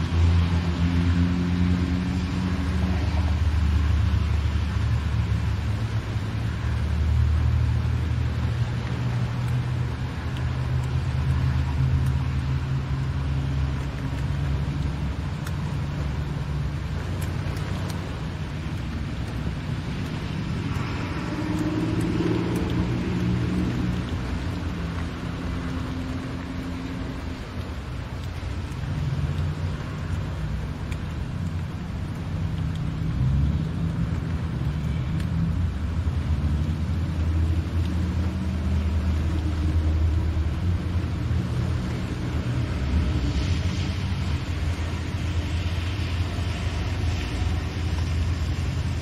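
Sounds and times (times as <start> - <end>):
car engine and road drone: 0.0 - 49.0
rain and wet tyres hiss: 0.0 - 49.0.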